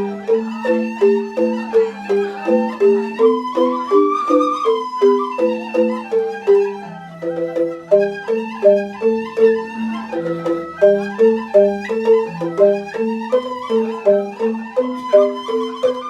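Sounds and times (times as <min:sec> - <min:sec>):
bamboo xylophones playing: 0:00.0 - 0:16.0
flute-like melody: 0:00.0 - 0:16.0.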